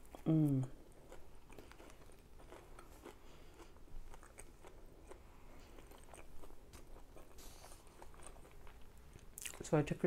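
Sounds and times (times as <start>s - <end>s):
chewing crunchy fried food: 0.0s - 9.8s.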